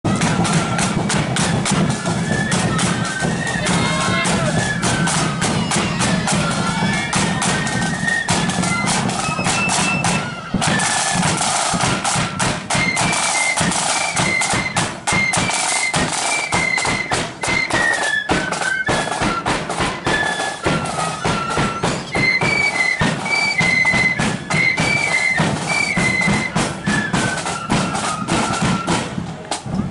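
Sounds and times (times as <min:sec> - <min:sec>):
snare drums: 0:00.0 - 0:29.9
cymbals: 0:00.1 - 0:29.9
flutes playing a tune: 0:00.1 - 0:29.9.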